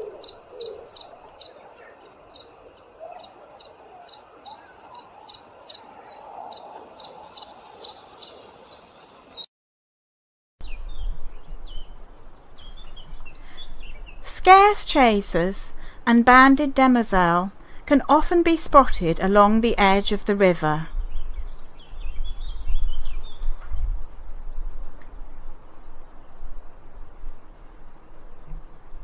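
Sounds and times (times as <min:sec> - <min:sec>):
birds chirping: 0:00.0 - 0:09.5, 0:10.6 - 0:15.9, 0:18.5 - 0:27.0.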